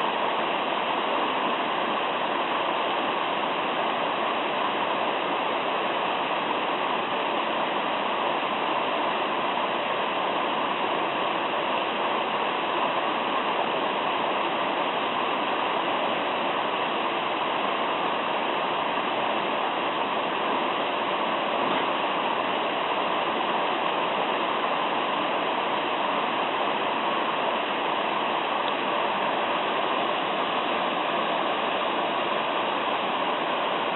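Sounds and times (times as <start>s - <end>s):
stream babbling: 0.0s - 33.9s.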